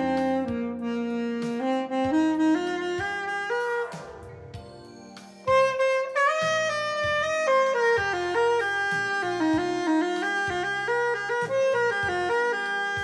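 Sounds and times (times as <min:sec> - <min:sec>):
instrumental music with held notes: 0:00.0 - 0:13.0.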